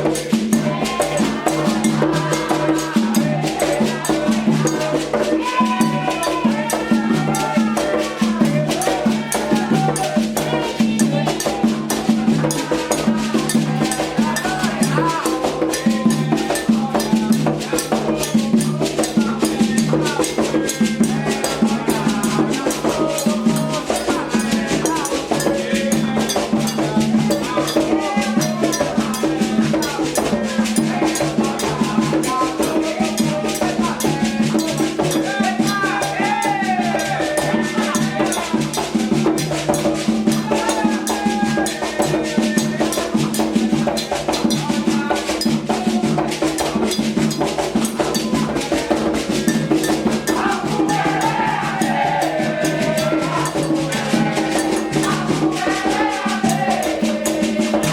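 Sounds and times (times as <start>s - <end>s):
hand drums playing: 0.0s - 57.9s
people singing: 0.0s - 57.9s.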